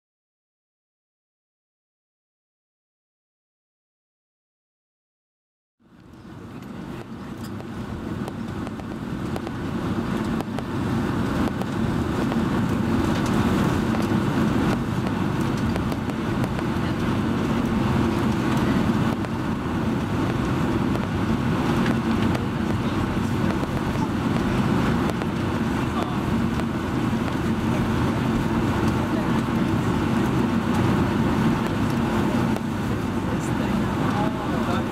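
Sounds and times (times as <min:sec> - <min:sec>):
jet cabin engine rumble: 0:05.8 - 0:34.9.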